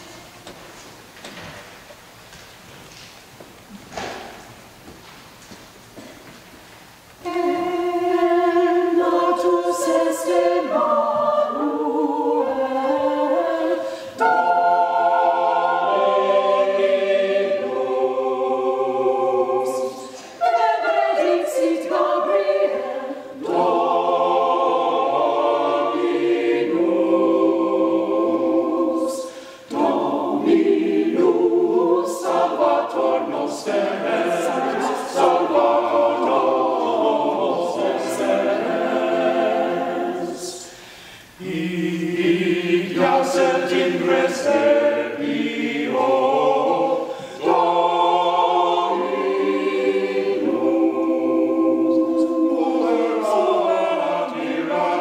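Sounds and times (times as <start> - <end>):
mixed choir singing a carol: 7.2 - 55.0.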